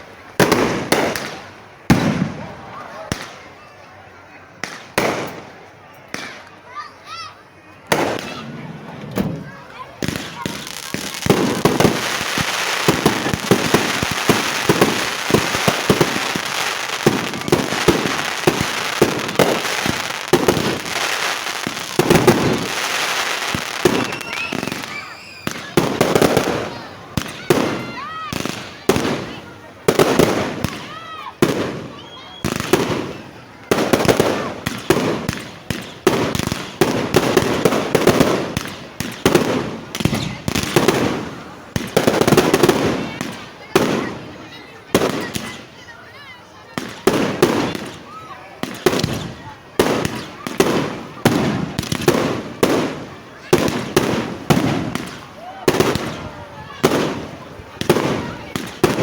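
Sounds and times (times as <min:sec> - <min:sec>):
fireworks crackle: 0:00.0 - 0:03.6, 0:04.6 - 0:06.6, 0:07.8 - 0:59.0
fireworks bangs and pops: 0:00.3 - 0:03.6, 0:04.6 - 0:06.6, 0:07.8 - 0:45.9, 0:46.7 - 0:59.0.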